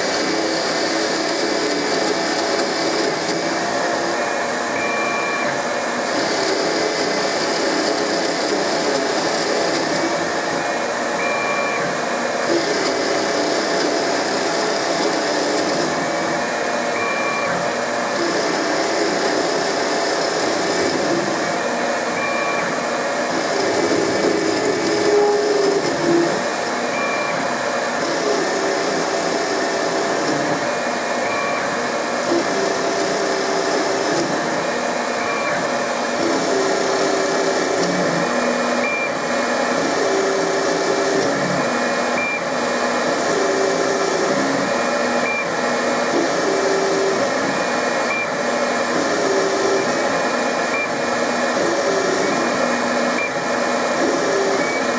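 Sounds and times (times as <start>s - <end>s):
lathe motor hum: 0.0s - 54.9s
whining axis drive tones: 0.0s - 54.9s.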